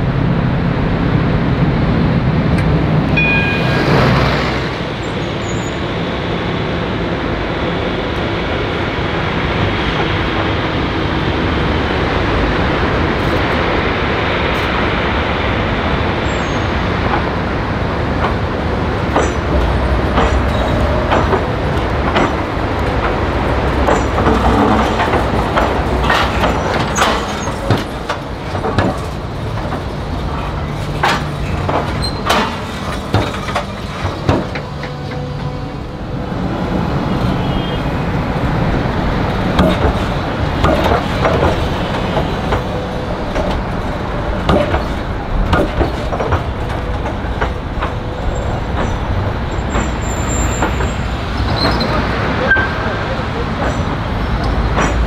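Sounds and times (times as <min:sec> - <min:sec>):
tram running rumble: 0:00.0 - 0:55.0
tram wheels clattering over joints: 0:00.0 - 0:55.0.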